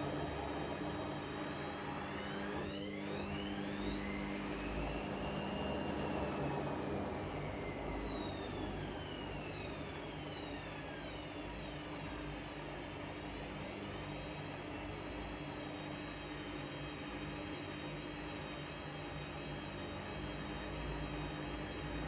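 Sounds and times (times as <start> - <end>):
washing machine motor whining: 0.0 - 22.0.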